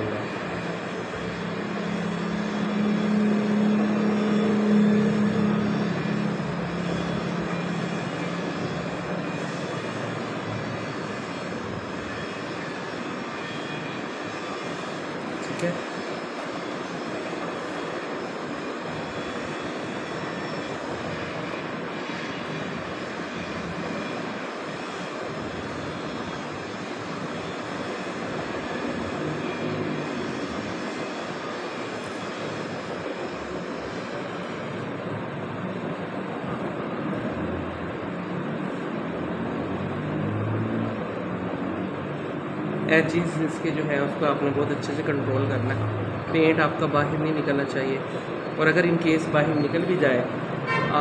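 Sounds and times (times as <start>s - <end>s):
low wavering hum: 0.0s - 42.8s
steady rushing noise: 0.0s - 51.0s.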